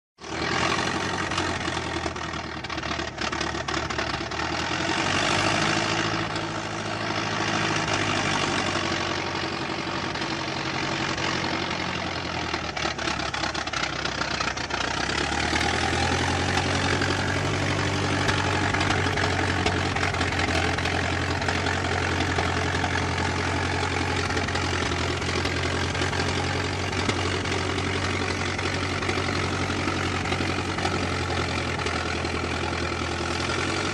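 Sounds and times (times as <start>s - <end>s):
old car engine running: 0.2s - 33.9s.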